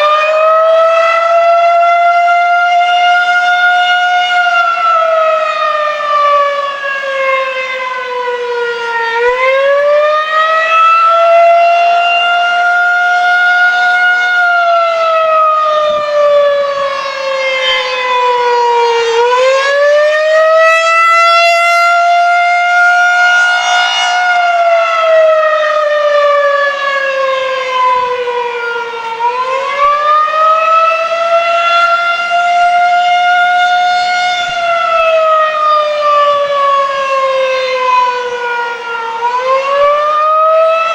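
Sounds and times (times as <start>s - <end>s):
tornado siren wailing: 0.0s - 40.9s.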